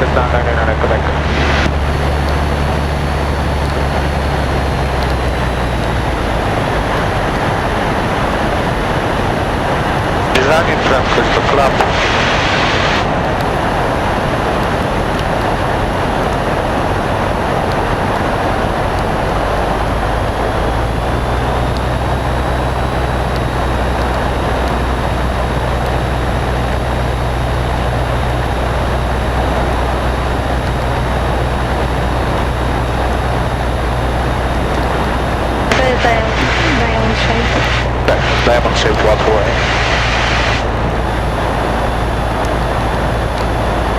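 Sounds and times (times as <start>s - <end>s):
airplane engine and propeller drone: 0.0s - 43.9s
deep steady hum: 0.0s - 43.9s.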